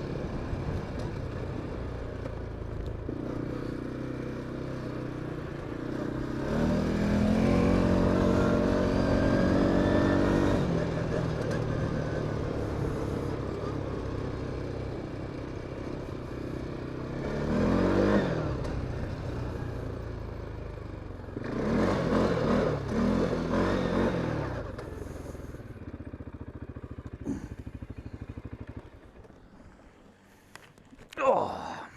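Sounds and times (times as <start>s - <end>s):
quad bike engine revving and idling: 0.0s - 29.9s.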